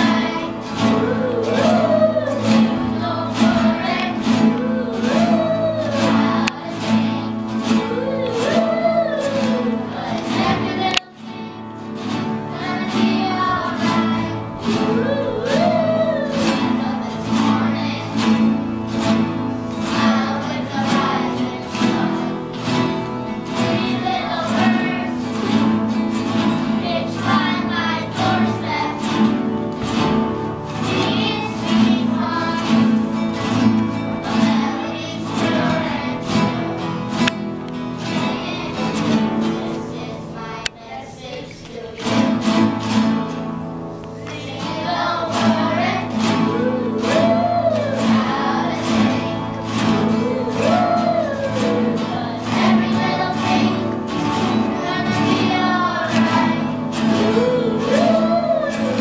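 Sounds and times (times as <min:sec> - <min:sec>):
acoustic guitars strumming: 0:00.0 - 0:59.0
children singing together: 0:00.0 - 0:59.0.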